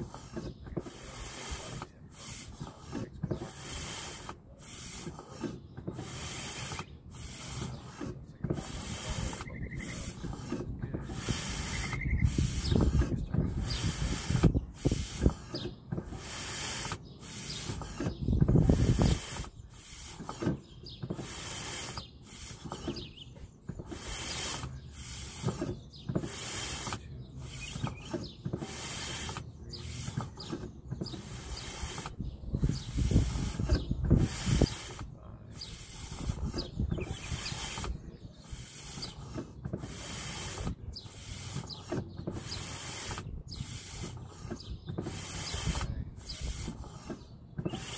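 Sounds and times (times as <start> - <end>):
hiss of fluid through bleed line: 0.0 - 23.1, 23.8 - 47.9.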